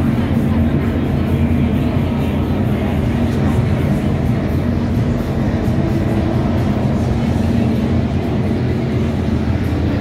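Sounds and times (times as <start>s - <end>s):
powerboat engines rumbling: 0.0s - 10.0s.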